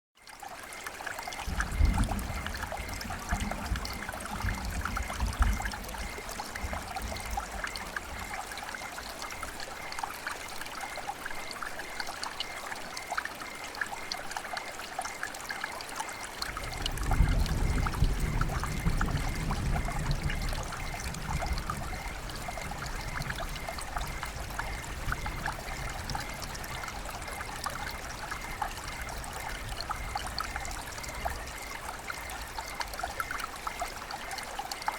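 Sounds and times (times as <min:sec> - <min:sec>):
running water: 0:00.2 - 0:34.9
steady rain: 0:00.2 - 0:34.9.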